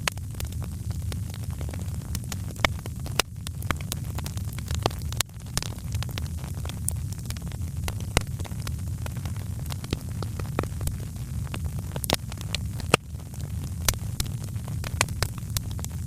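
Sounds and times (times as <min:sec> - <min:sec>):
fire low rumble: 0:00.0 - 0:16.0
wood fire crackling: 0:00.0 - 0:16.0.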